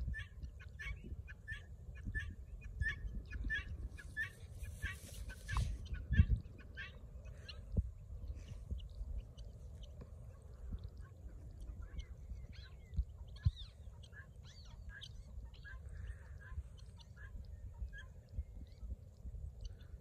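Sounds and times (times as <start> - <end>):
small birds chirping: 0.0 - 20.0
wind rumble on microphone: 0.0 - 20.0.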